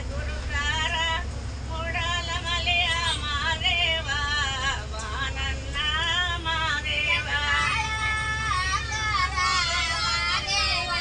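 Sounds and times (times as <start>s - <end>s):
low rumble of moving bus: 0.0s - 11.0s.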